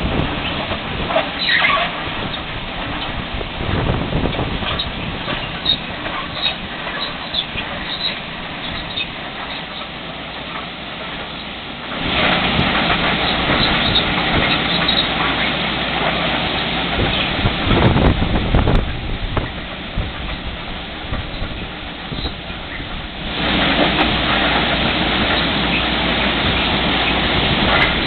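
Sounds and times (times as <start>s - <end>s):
train wheels on rail: 0.0s - 28.0s
work train machinery: 0.0s - 28.0s.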